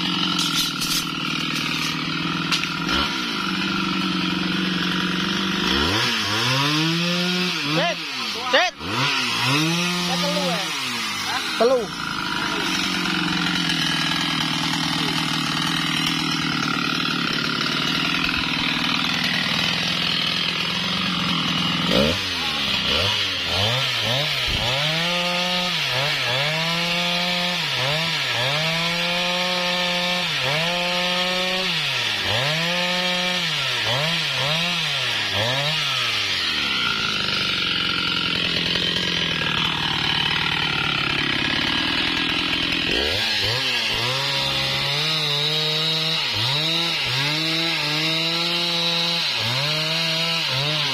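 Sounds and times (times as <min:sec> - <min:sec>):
chainsaw cutting a log: 0:00.0 - 0:50.9.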